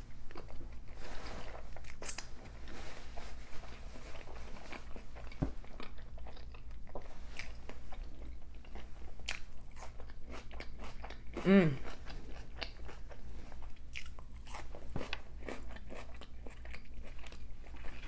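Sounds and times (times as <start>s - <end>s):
close chewing: 3.4s - 18.0s.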